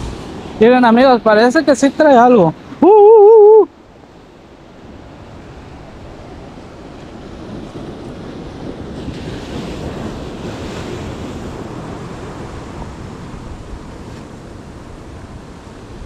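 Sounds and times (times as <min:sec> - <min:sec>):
ocean surf washing over rocks: 0:00.0 - 0:16.0.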